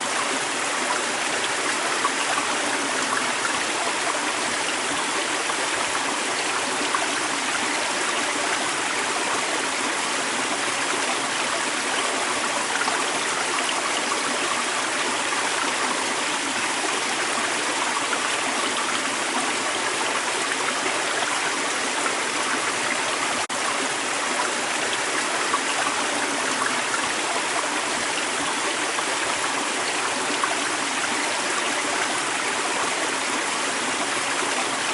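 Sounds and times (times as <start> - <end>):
creek water over rocks: 0.0 - 34.9.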